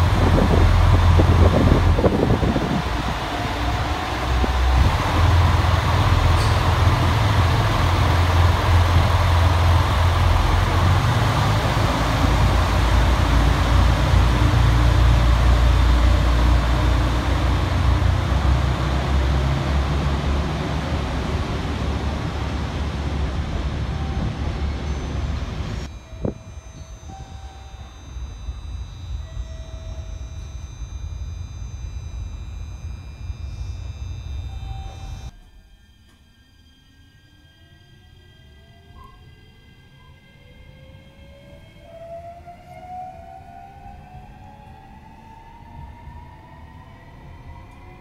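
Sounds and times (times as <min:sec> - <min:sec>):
diesel railcar engines rumbling: 0:00.0 - 0:48.0
station background noise: 0:00.0 - 0:48.0.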